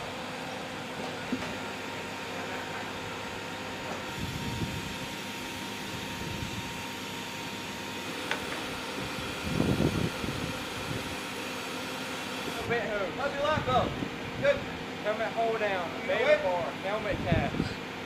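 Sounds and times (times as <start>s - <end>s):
machinery hum with high tone: 0.0s - 18.0s.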